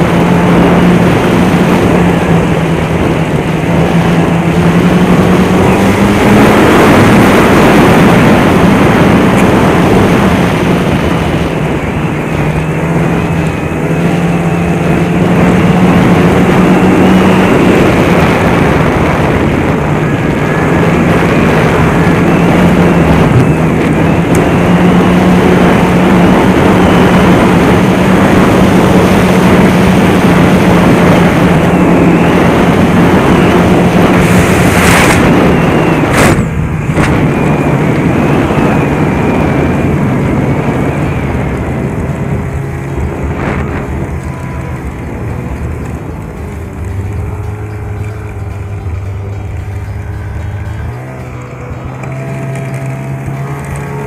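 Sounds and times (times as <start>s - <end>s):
snowmobile engine running: 0.0s - 54.0s
wide rushing noise: 0.0s - 54.0s.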